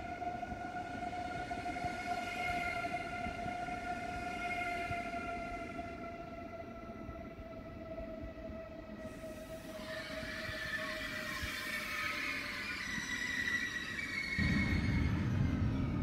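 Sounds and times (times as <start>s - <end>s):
train electric whine: 0.0s - 16.0s.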